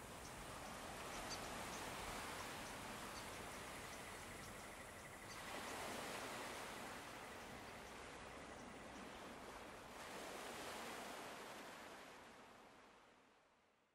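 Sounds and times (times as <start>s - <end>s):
soft wash of outdoor noise: 0.0s - 13.9s.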